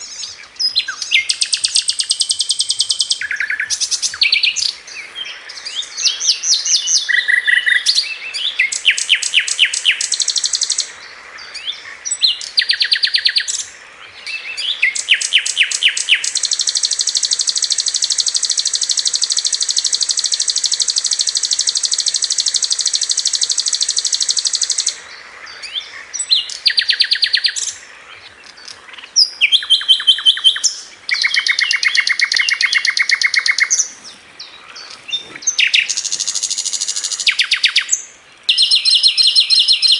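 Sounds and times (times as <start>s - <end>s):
flycatcher trilling song: 0.0s - 39.9s.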